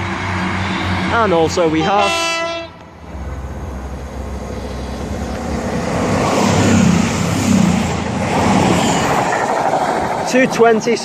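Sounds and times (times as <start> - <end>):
diesel train passing at speed: 0.0 - 11.0.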